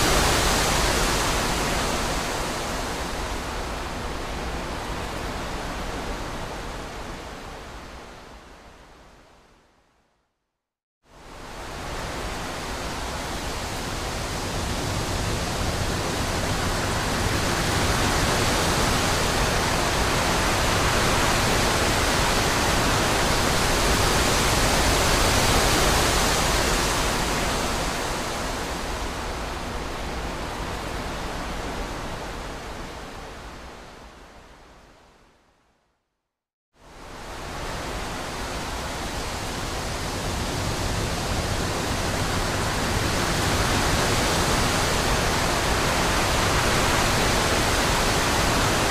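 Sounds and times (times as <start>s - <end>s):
wind blowing through trees: 0.0s - 10.2s, 11.0s - 36.0s, 36.8s - 48.9s.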